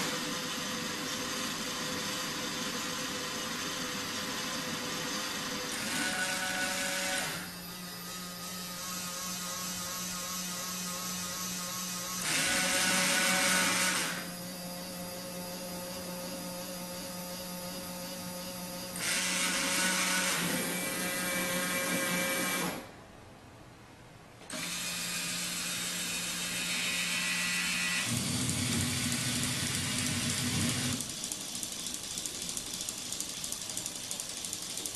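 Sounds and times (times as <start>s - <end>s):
small electric motors whirring: 0.0s - 22.9s, 24.5s - 34.9s.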